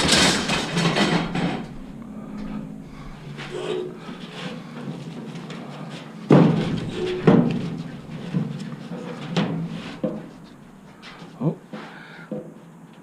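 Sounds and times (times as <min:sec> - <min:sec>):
aluminum poles clanking: 0:00.0 - 0:11.4.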